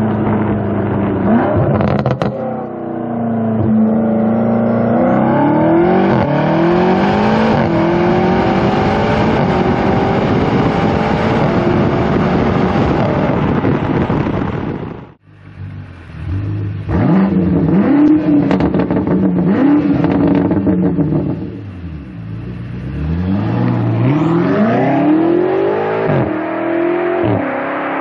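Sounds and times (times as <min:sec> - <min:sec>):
car engine revving and accelerating: 0:00.0 - 0:14.9, 0:15.6 - 0:28.0.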